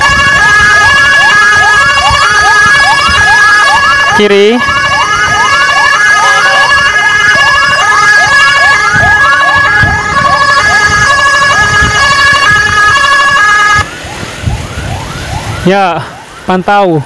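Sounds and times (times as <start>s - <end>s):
emergency vehicle sirens: 0.0s - 17.0s.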